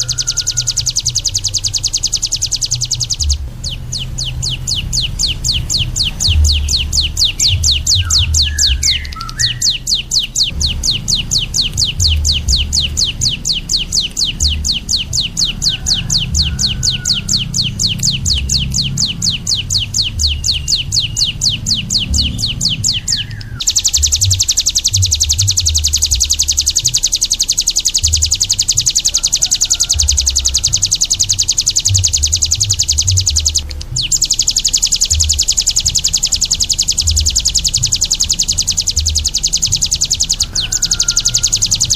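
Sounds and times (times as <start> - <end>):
low irregular thumping: 0.0 - 41.9
songbird chip note trill: 0.0 - 41.9.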